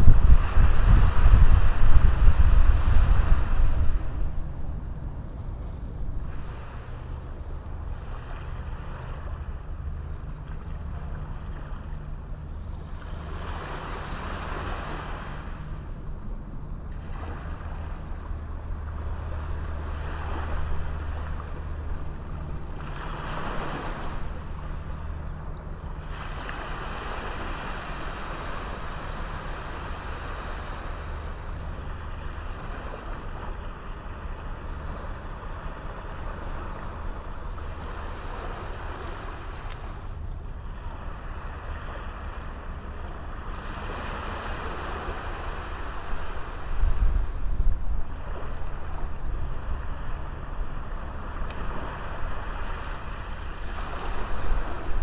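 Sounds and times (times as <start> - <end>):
small waves breaking on beach: 0.0 - 4.9, 5.6 - 16.2, 16.9 - 55.0
steady low rumble: 0.0 - 55.0.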